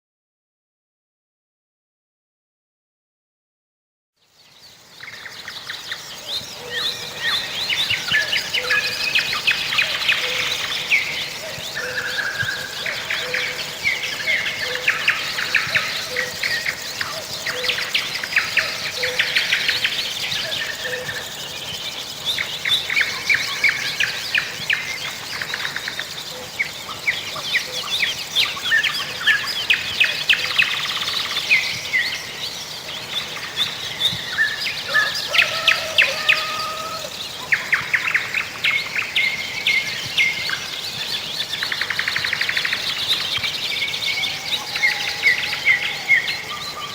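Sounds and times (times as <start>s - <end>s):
songbirds chirping and trilling: 4.2s - 46.9s
low repeated bird call: 6.4s - 46.9s.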